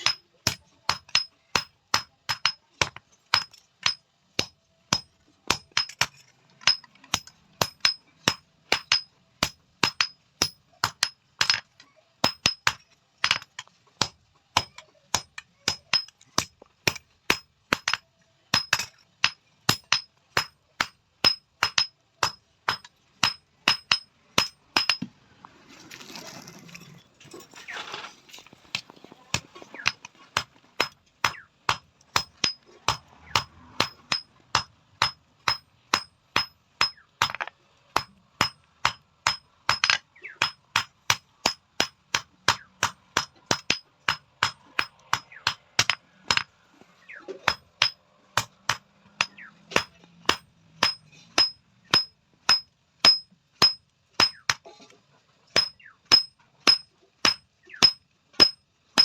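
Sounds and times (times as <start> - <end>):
hammer beating iron pan: 0.0 - 11.6, 14.0 - 25.0, 29.3 - 37.4, 38.0 - 46.5, 47.5 - 54.6, 55.6 - 59.0.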